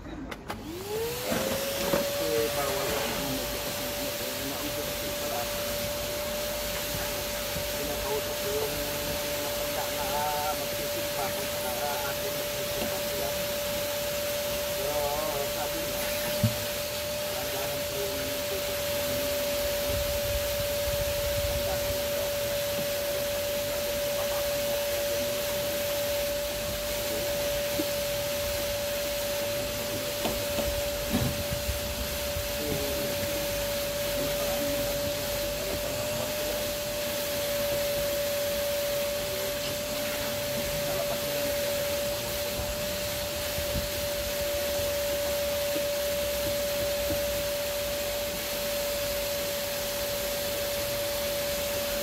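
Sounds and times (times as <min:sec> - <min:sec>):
vacuum cleaner whining: 0:00.0 - 0:52.0.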